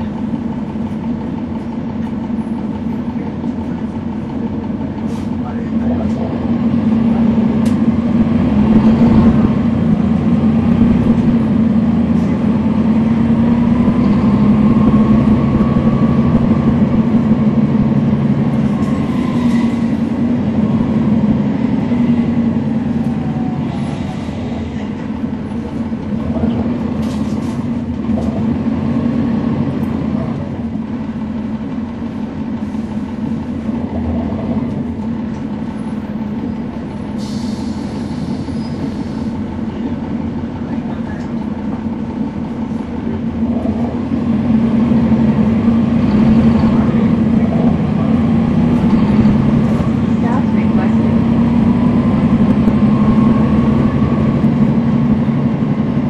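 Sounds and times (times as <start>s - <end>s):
bus diesel engine droning: 0.0s - 56.0s
engine whine: 0.0s - 56.0s.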